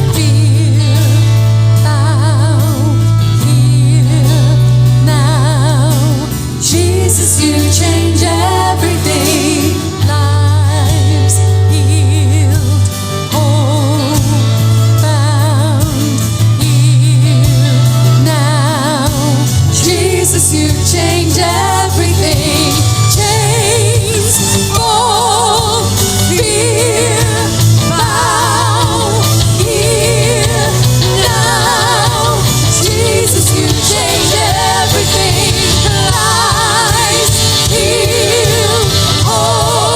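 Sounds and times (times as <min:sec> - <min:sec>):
band with held bass notes: 0:00.0 - 0:39.9
person singing with vibrato: 0:00.0 - 0:39.9.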